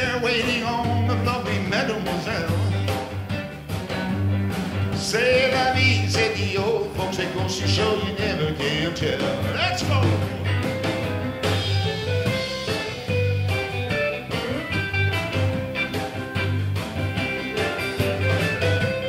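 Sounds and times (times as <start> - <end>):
drum kit: 0.0 - 19.0
electric bass: 0.0 - 19.0
electric guitar lead: 0.0 - 19.0.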